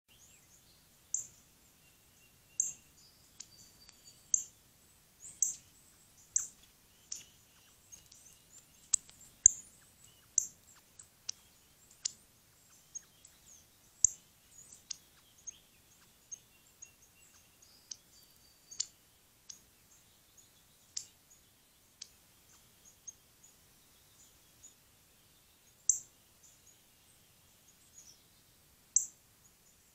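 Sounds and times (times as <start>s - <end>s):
songbird chip notes: 0.1s - 29.9s.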